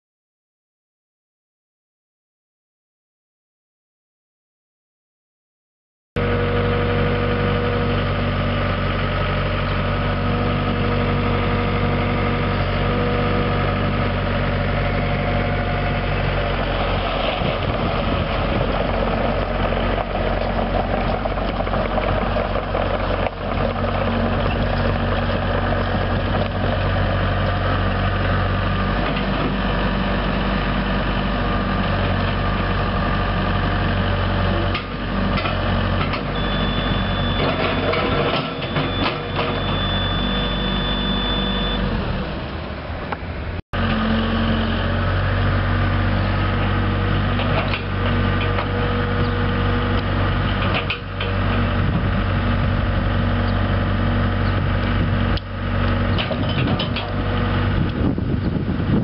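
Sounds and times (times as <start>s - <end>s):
excavator diesel engine running: 6.2s - 59.0s.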